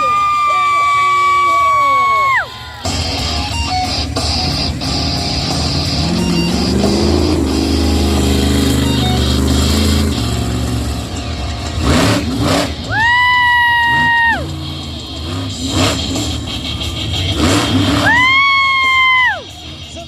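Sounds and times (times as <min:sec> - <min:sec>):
monster truck engine revving: 0:00.9 - 0:20.0.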